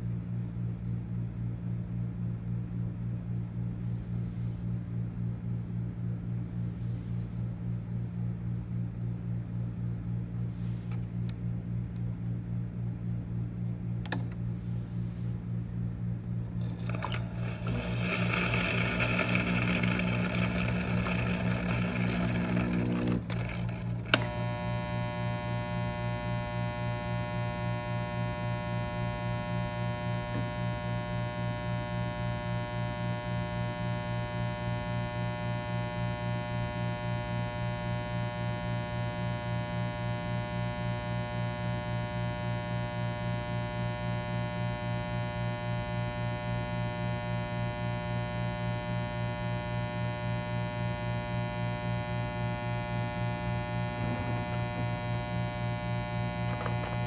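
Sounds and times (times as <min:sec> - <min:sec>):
espresso machine buzzing hum: 0:00.0 - 0:57.0.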